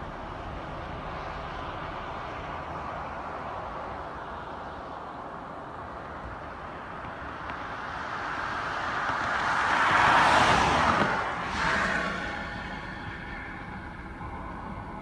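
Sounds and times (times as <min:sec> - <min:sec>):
car passing on road: 0:00.0 - 0:15.0.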